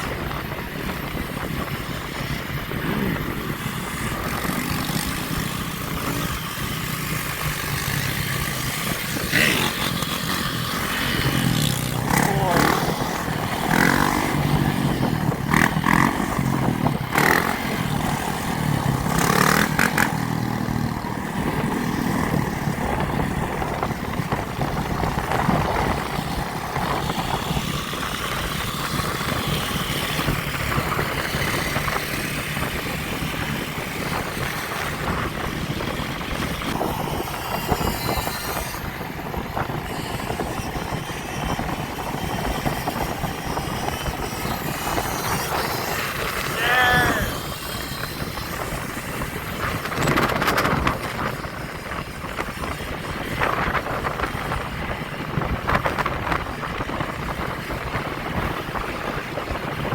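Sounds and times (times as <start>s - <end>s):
motorbike engines revving: 0.0s - 59.9s
rush of riding noise: 0.0s - 59.9s.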